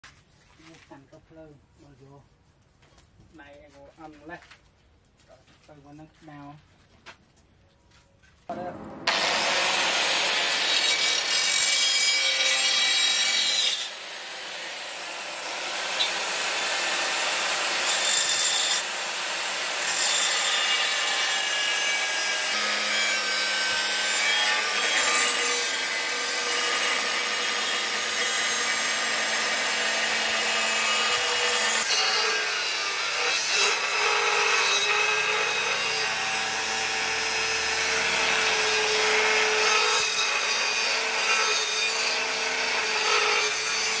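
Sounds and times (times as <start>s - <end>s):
angle grinder cutting steel: 8.5s - 44.0s.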